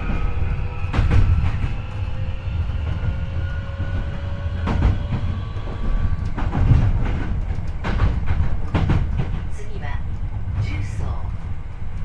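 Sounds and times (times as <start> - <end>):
wheel and track rumble: 0.0 - 12.0
wheel clacks over rail joints: 0.0 - 12.0.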